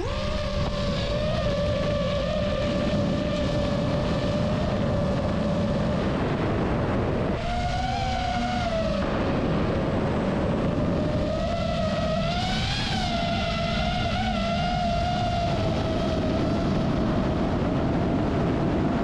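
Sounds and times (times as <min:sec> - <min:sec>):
drone motors whining: 0:00.0 - 0:18.8.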